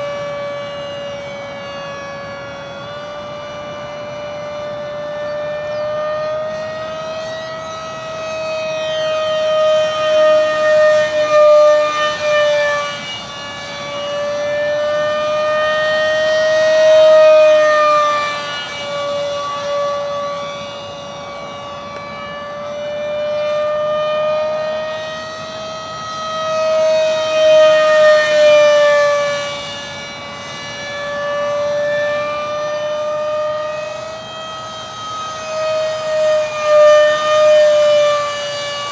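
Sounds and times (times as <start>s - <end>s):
model jet fan whine: 0.0s - 38.9s.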